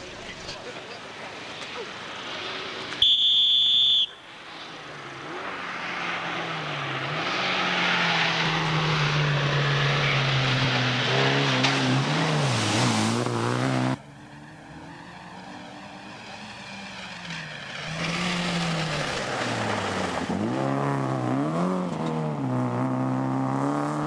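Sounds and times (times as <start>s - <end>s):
tyre and road noise: 0.0s - 24.0s.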